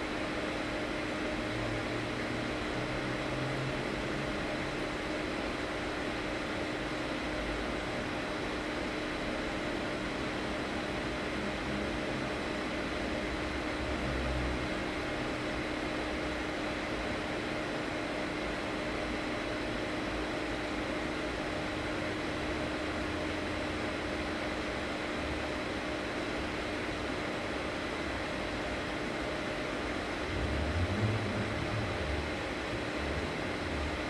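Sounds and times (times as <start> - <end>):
machine hum and hiss: 0.0 - 34.0.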